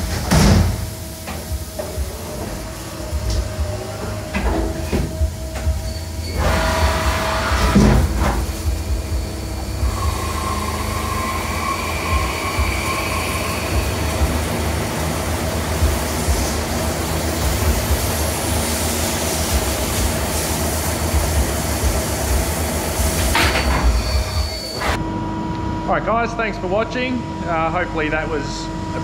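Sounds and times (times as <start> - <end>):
coolant spray hissing: 0.0 - 24.6
faint machine whine: 0.0 - 29.0
lathe machine whir and rumble: 0.0 - 29.0.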